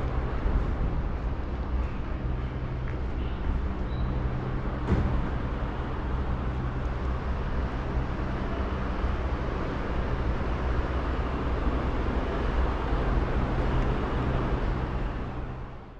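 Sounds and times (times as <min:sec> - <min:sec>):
metro station rumble and hiss: 0:00.0 - 0:15.9.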